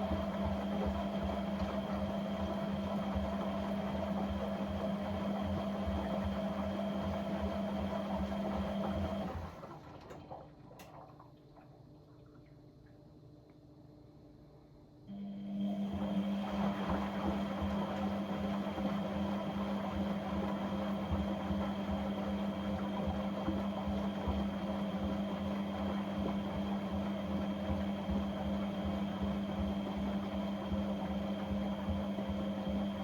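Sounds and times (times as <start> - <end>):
washing machine running: 0.0 - 12.5, 15.1 - 33.0.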